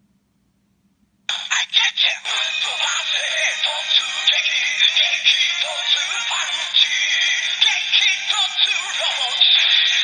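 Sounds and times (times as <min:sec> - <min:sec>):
synthesized toy voice: 0:01.3 - 0:10.0.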